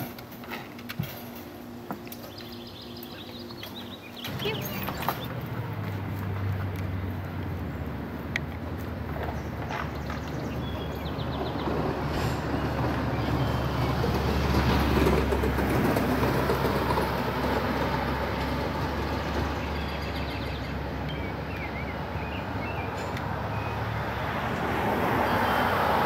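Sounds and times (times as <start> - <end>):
road vehicle passing: 1.6 - 26.0.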